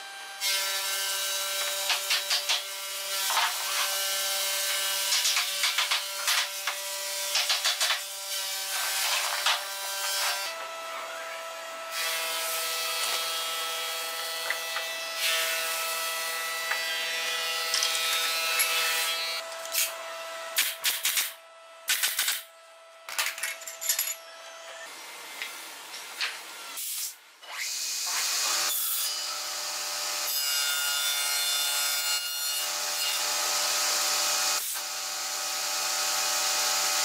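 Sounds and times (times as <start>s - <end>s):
workshop hum: 0.0s - 37.0s.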